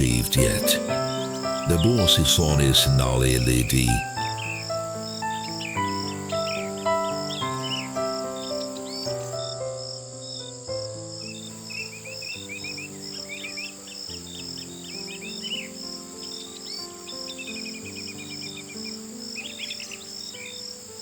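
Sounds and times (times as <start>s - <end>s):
crickets chirping: 0.0s - 21.0s
small birds twittering: 0.0s - 21.0s
soft slow music: 0.0s - 21.0s.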